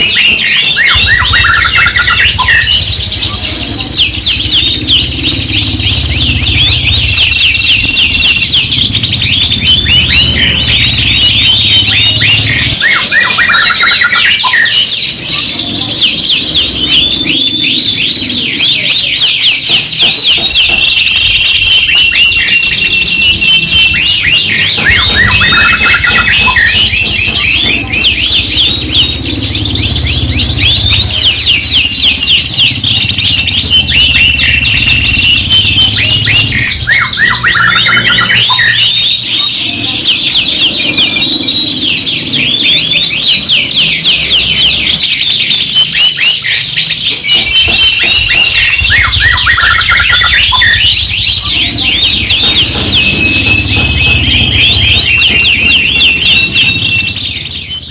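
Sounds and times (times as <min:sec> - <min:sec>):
canaries singing trills: 0:00.0 - 0:57.9.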